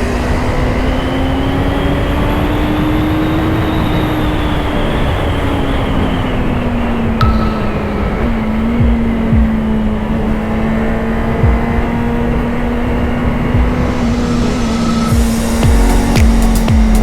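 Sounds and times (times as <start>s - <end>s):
rushing noise: 0.0s - 17.0s.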